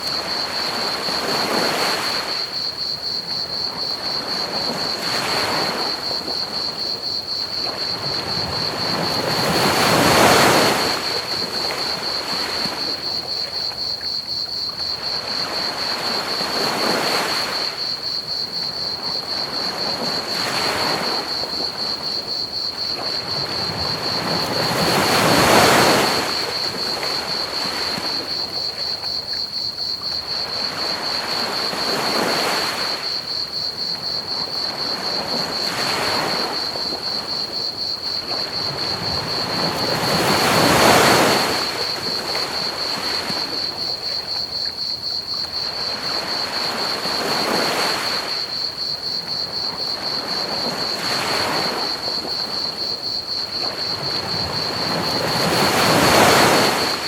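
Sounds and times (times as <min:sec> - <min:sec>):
crickets chirping: 0:00.0 - 0:57.0
ocean waves washing onto beach: 0:00.0 - 0:57.0.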